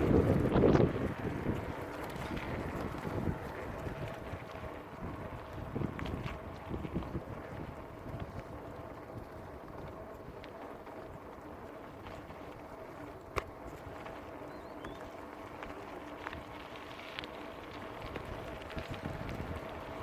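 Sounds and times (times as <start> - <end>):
wind buffeting microphone: 0.0 - 16.6, 17.7 - 20.0
bike rolling on dirt: 0.0 - 20.0.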